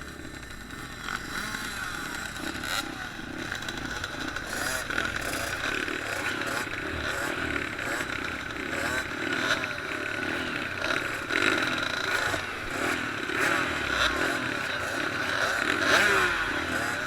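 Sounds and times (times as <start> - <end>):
small motorbike engines revving: 0.0 - 17.0.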